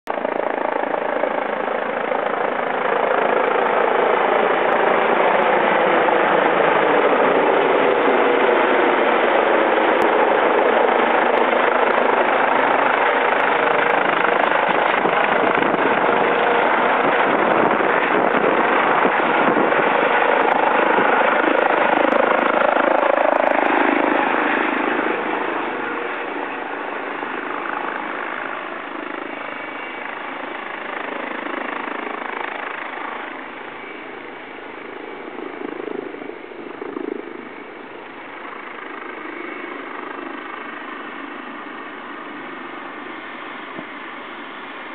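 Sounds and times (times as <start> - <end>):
helicopter rotor and turbine: 0.1 - 44.9.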